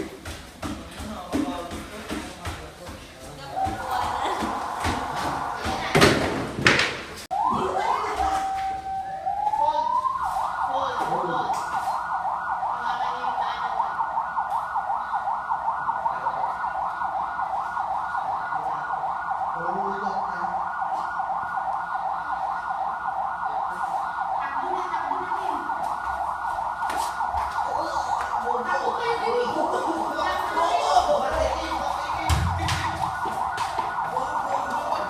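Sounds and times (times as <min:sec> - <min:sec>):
warbling electronic alarm siren: 0:03.5 - 0:06.6, 0:07.3 - 0:35.0.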